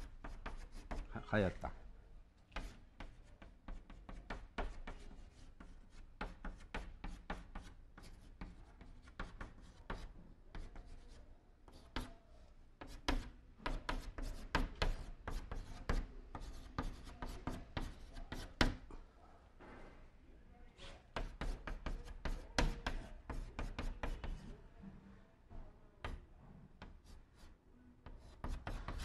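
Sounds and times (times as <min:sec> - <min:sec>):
chalk writing on a blackboard: 0:00.0 - 0:01.2, 0:02.5 - 0:18.9, 0:20.8 - 0:24.6, 0:26.0 - 0:29.0.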